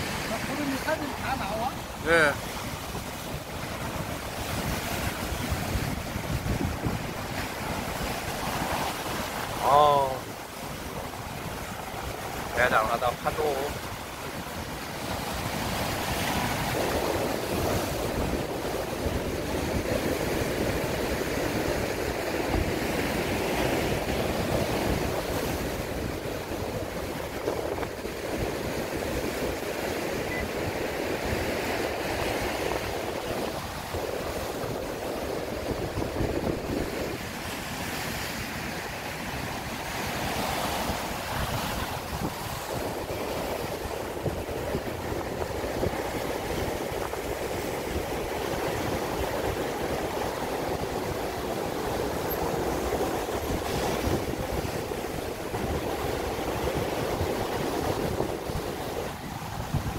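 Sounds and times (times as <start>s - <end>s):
sea waves breaking over rocks: 0.0s - 59.9s.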